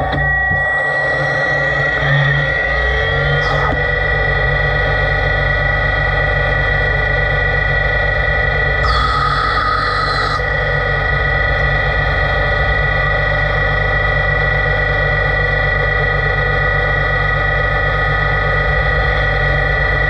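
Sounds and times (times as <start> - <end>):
lathe humming and whining: 0.0 - 20.0.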